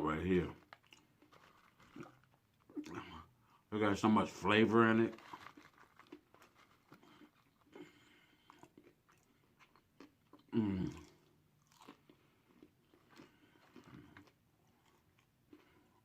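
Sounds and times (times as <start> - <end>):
person chewing crunchy food: 0.6 - 3.6, 5.1 - 16.0.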